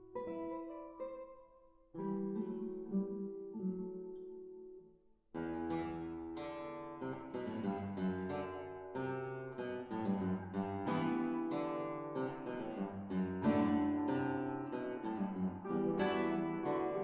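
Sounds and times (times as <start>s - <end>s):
classical guitars playing: 0.0s - 4.8s, 5.4s - 17.0s.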